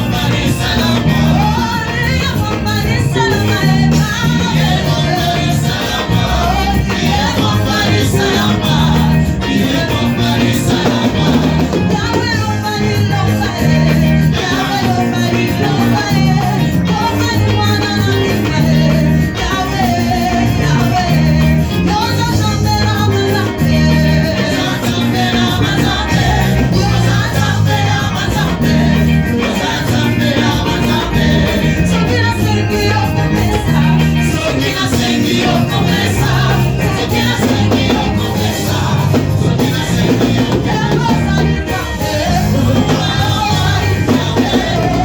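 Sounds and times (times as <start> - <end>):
church band music with singing: 0.0 - 45.0.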